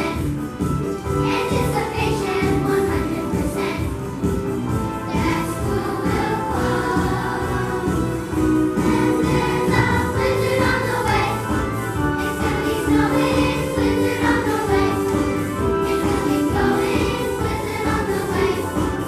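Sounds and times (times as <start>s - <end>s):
choir singing: 1.2s - 3.9s, 5.1s - 19.0s.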